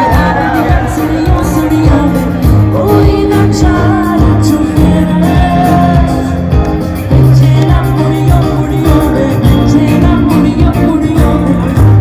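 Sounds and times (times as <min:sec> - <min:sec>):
bass and chords: 0:00.0 - 0:12.0
person singing: 0:00.0 - 0:12.0
steady drum beat: 0:00.0 - 0:12.0.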